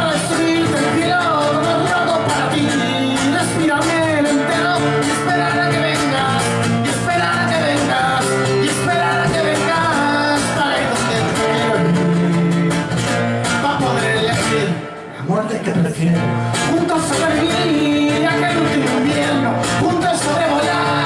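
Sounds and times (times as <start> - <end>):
acoustic guitar strumming: 0.0 - 21.0
man singing: 0.0 - 21.0.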